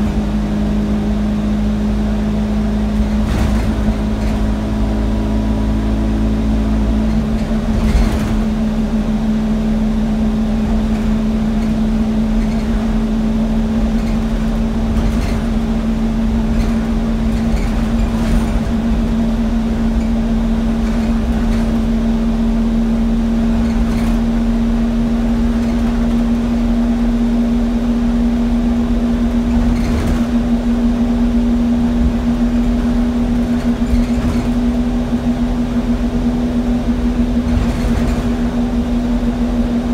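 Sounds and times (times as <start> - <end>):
bus engine and fan droning: 0.0 - 39.9
bodywork rattles and knocks: 2.8 - 6.3, 6.9 - 9.1, 10.4 - 27.0, 29.3 - 39.9.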